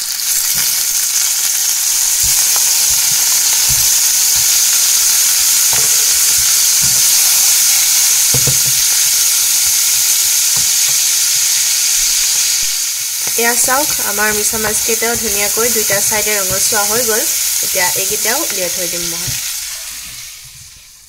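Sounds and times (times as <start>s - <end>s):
prawns sizzling in hot oil: 0.0s - 21.0s.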